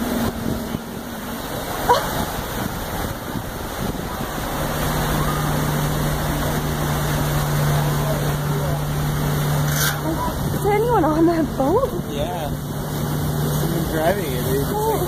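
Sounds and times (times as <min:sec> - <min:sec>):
propeller wash churning: 0:00.0 - 0:15.0
steady low hum: 0:00.0 - 0:15.0.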